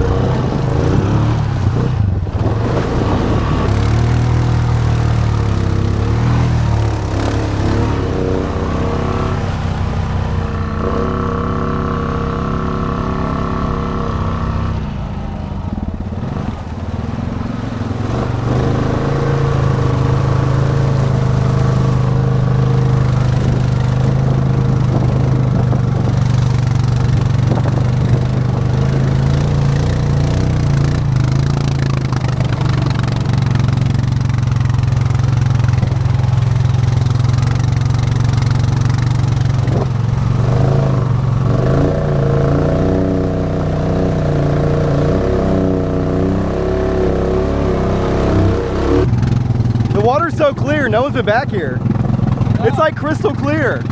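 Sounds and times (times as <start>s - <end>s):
atv engine running under load: 0.0s - 53.9s.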